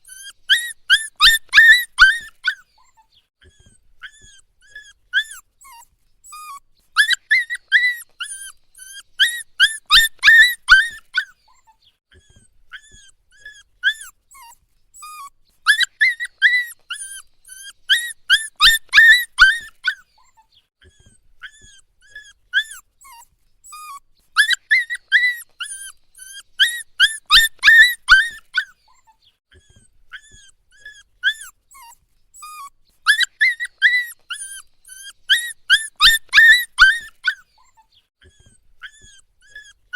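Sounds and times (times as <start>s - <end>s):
puppy whimpering: 0.0s - 39.9s
puppy whining and crying: 0.0s - 39.9s.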